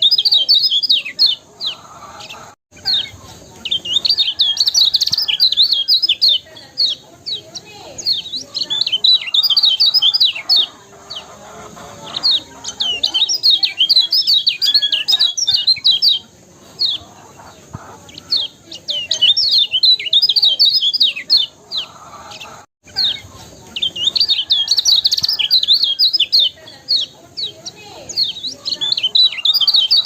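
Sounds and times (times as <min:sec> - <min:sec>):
bird twittering: 0:00.0 - 0:30.0.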